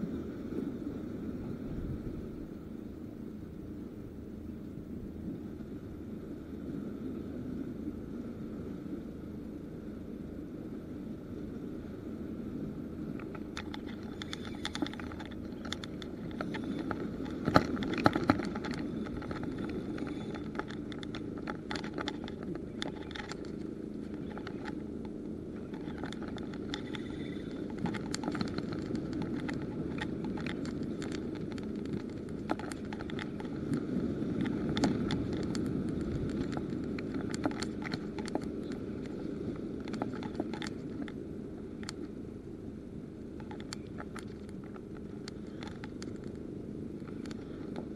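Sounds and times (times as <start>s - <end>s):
wind and sea rushing: 0.0s - 47.9s.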